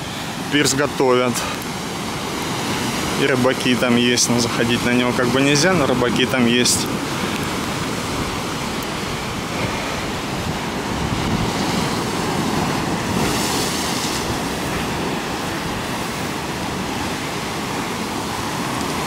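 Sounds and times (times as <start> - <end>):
sea surf breaking on rocks: 0.0 - 19.0
wave crashing against rocks: 0.0 - 19.0.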